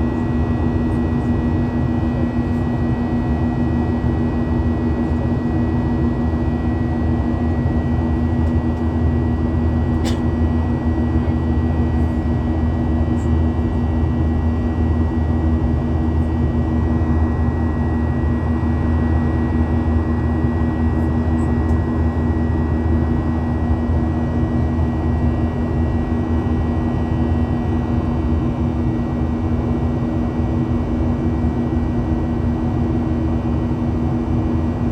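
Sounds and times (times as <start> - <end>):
high engine whine: 0.0 - 34.8
airliner cabin drone: 0.0 - 34.9.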